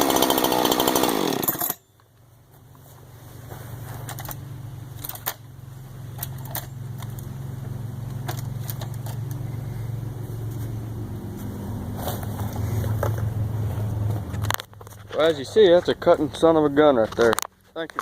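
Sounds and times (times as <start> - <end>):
low engine hum: 1.9 - 18.0.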